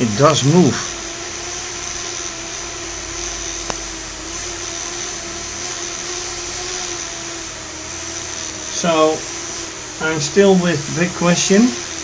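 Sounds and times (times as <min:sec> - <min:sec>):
electric motors whirring: 0:00.0 - 0:12.0.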